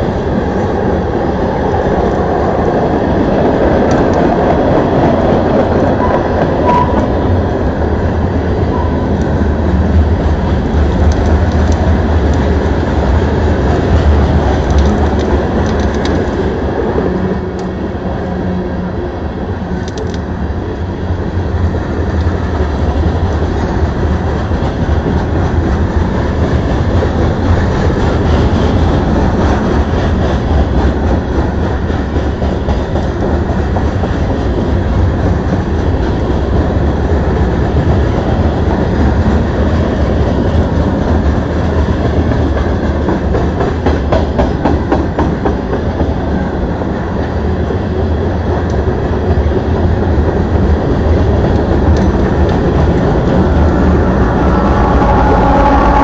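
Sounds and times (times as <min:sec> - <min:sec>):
wheels clattering on rails: 0:00.0 - 0:18.6, 0:19.6 - 0:56.0
freight train rumbling past: 0:00.0 - 0:56.0.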